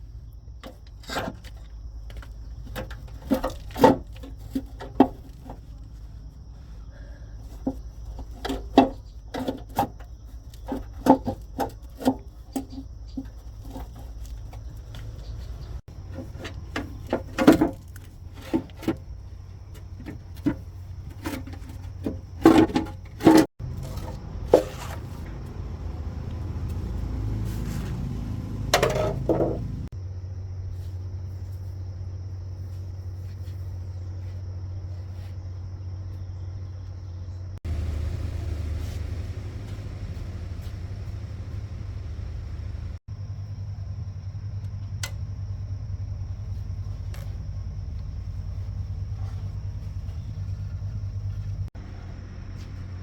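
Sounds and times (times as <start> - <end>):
engine running low rumble: 0.0 - 53.0.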